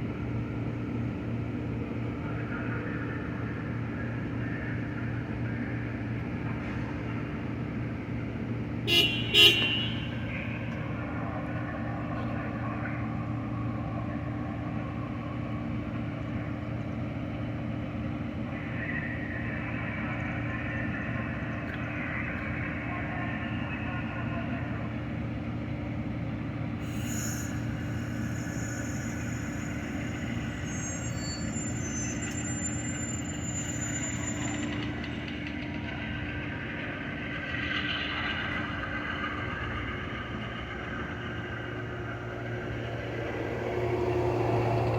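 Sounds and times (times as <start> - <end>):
passenger train passing: 0.0 - 44.9.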